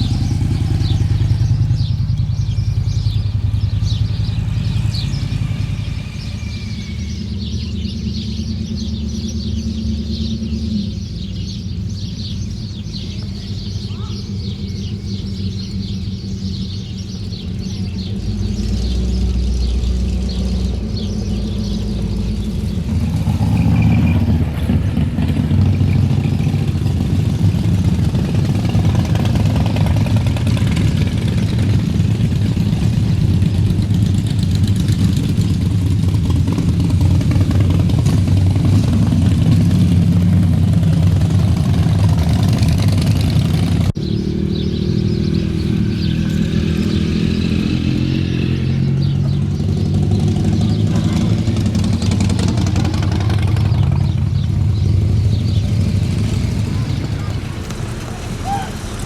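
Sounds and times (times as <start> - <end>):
birds chirping: 0.0 - 59.0
motorcycle engine running: 0.0 - 59.0.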